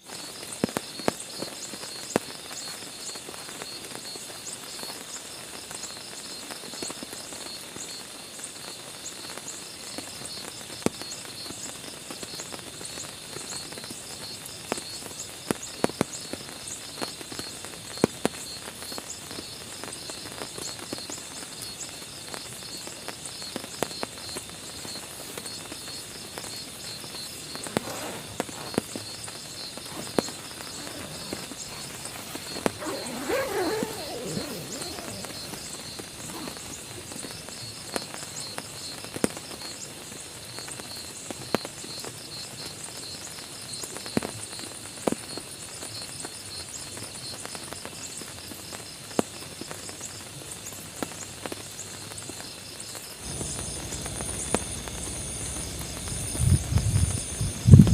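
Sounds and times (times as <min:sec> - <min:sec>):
soft continuous hiss: 0:00.0 - 0:57.9
insects chirping: 0:00.1 - 0:57.9.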